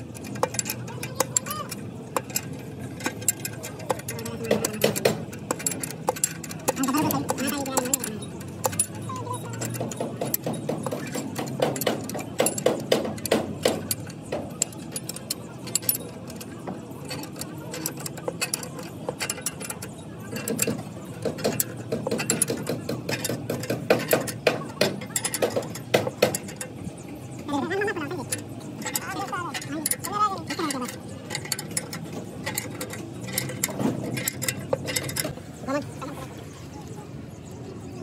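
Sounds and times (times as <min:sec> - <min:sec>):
clicks and metallic knocks: 0:00.0 - 0:35.6.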